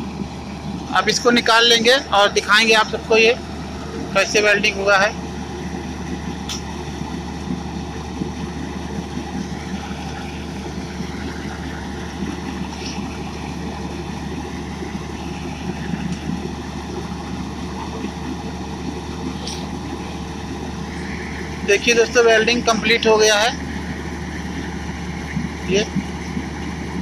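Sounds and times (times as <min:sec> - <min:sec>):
generator humming: 0:00.0 - 0:27.0.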